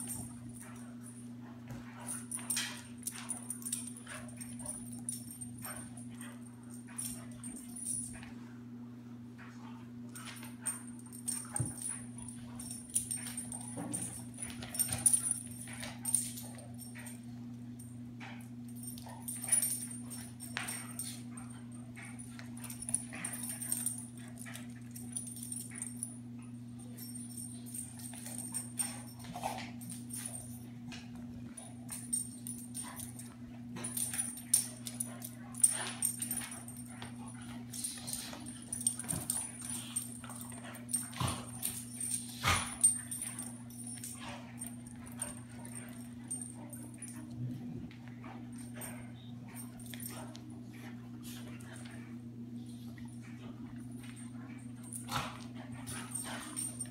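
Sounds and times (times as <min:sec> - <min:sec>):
dogs play-fighting: 0:00.0 - 0:56.9
steady low hum: 0:00.0 - 0:56.9.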